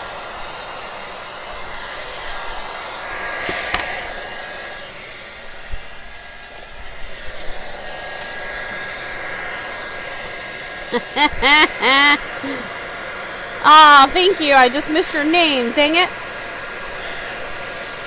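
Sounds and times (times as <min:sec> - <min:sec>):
heat gun hissing with whine: 0:00.0 - 0:18.0.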